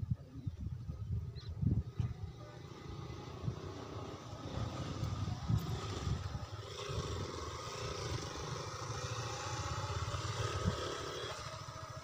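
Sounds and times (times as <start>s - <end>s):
motorcycles passing: 1.8s - 12.0s.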